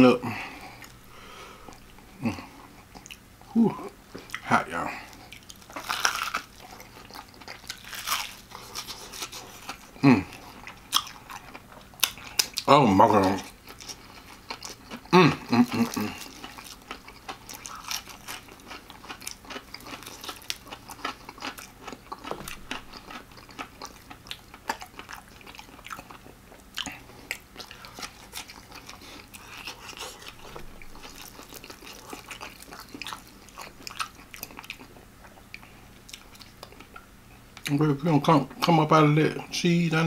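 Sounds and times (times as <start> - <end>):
chewing crispy fried chicken: 1.6 - 38.8.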